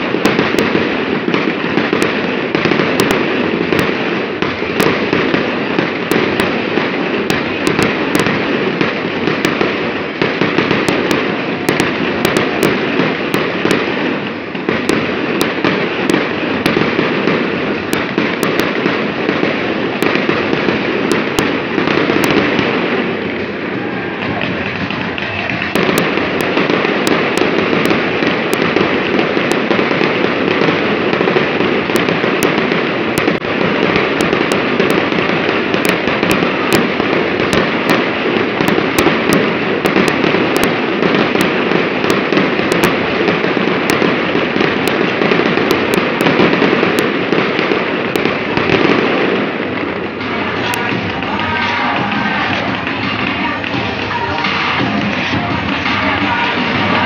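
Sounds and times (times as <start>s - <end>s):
fireworks crackling and popping: 0.0s - 57.0s
steady rush of noise: 0.0s - 57.0s.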